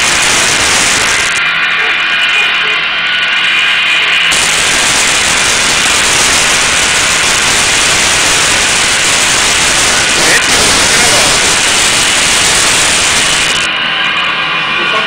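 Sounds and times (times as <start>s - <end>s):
stove rushing noise: 0.0s - 2.6s, 3.2s - 13.8s.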